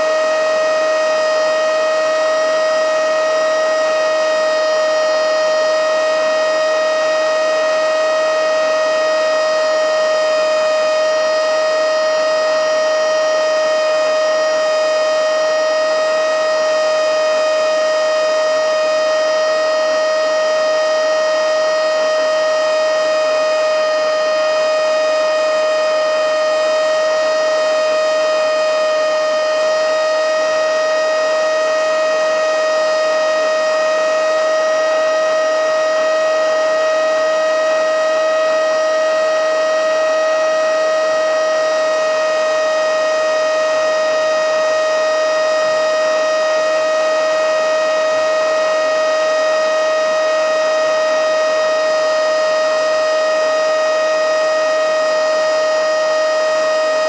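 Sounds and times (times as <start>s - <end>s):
handheld vacuum motor whine: 0.0s - 52.0s.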